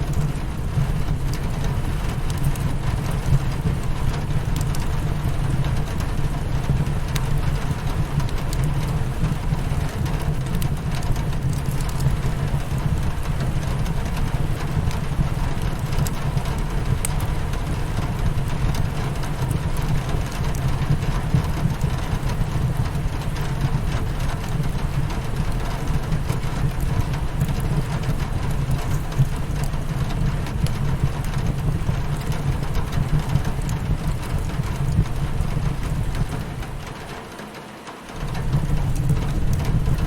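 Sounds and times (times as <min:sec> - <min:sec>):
wood fire crackling: 0:00.0 - 0:37.4, 0:38.0 - 0:40.0
rain against a window: 0:00.0 - 0:40.0.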